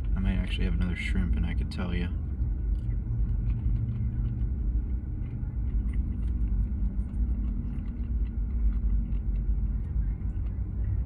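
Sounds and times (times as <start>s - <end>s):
car idling rumble: 0.0s - 11.0s.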